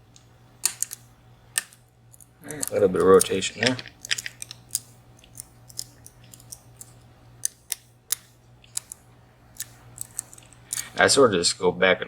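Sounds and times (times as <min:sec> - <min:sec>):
lock pick clicking on pins: 0:00.1 - 0:11.0.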